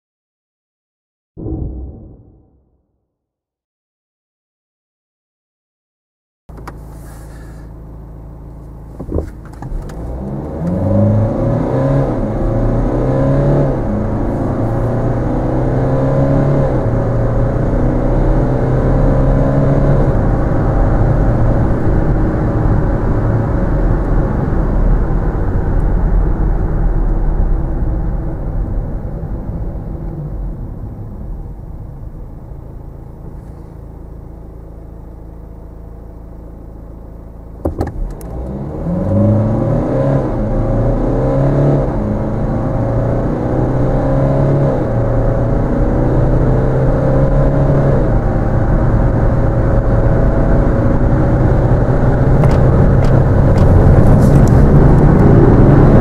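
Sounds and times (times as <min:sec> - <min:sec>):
diesel engine inside car cabin: 0:06.5 - 0:56.0.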